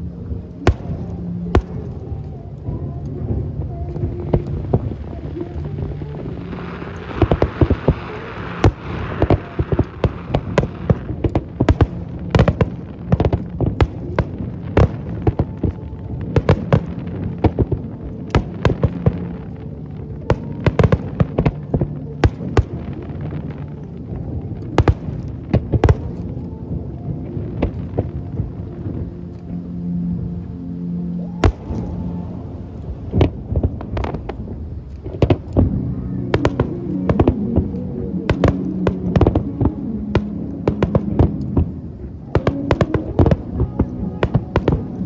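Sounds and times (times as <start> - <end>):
crackling hiss: 0.0 - 45.0.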